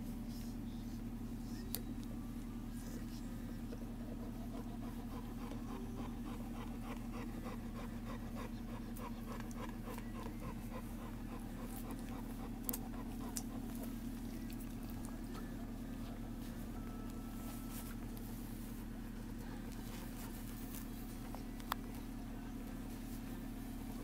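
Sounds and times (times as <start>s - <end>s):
soft rhythmic puppy sounds: 0.0s - 24.0s
steady low hum: 0.0s - 24.0s.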